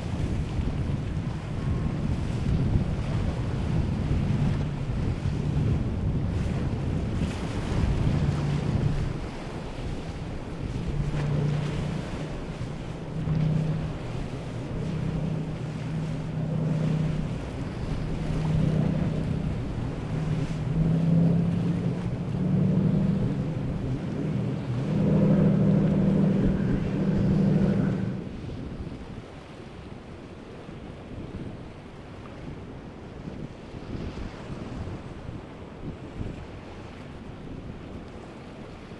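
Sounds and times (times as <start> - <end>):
boat engines droning: 0.0 - 38.9
rushing bow wave and wake: 0.0 - 38.9.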